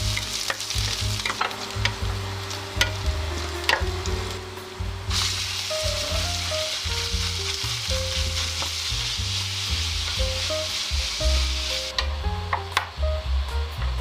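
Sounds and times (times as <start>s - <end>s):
food sizzling in a pan: 0.0s - 14.0s
soft background music: 0.0s - 14.0s.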